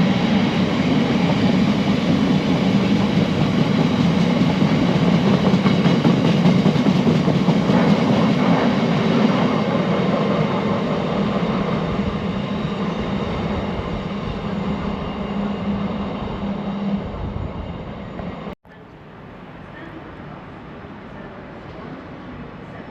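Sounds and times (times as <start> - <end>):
train passing on rails: 0.0 - 22.9.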